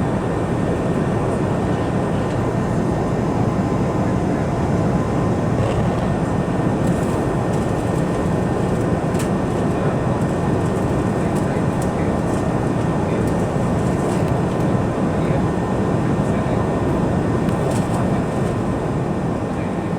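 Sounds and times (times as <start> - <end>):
aircraft cabin engine drone: 0.0 - 19.9.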